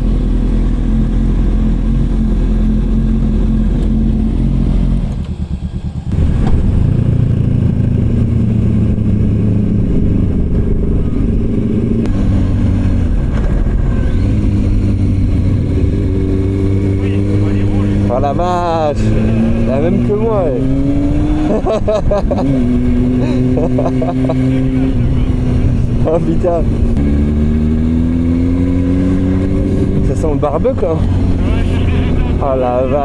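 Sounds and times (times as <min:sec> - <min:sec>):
motorcycle engine running: 0:00.0 - 0:33.0
wind and road noise: 0:00.0 - 0:33.0.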